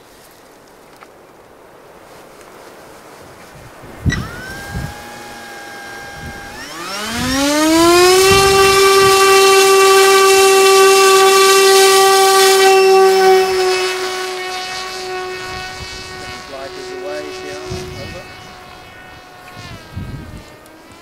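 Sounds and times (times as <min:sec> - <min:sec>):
drone propeller whine: 0:03.7 - 0:21.0.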